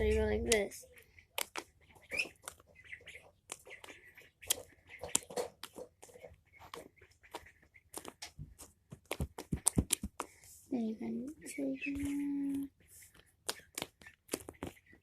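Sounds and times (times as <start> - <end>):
chicks chirping: 0.0 - 15.0
slime squelching and clicking: 0.1 - 10.4, 11.9 - 15.0.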